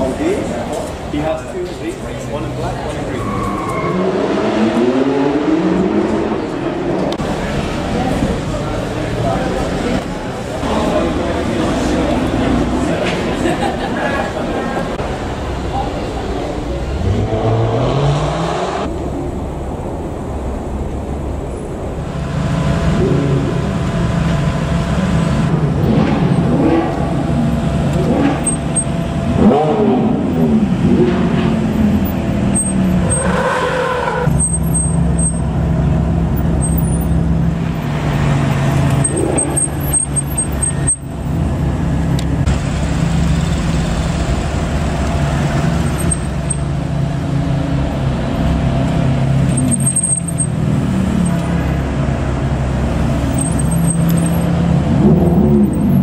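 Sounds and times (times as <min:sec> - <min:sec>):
car engines revving past: 0:01.4 - 0:21.0, 0:21.9 - 0:56.0
low engine drone: 0:04.6 - 0:33.2, 0:34.1 - 0:56.0.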